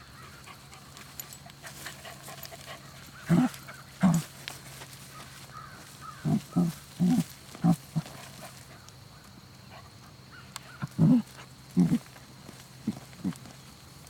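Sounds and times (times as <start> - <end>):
dog huffing and sniffing: 0.2 - 8.9, 9.6 - 13.6.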